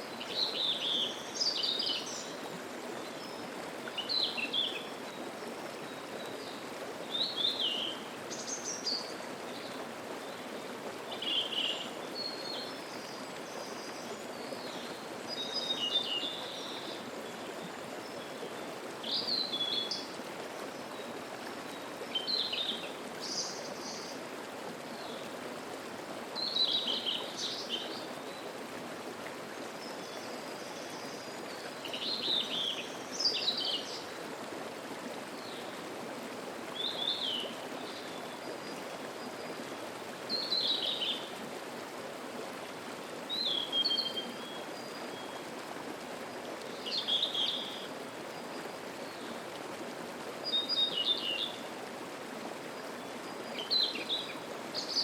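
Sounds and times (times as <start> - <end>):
mountain stream babbling: 0.0 - 55.0.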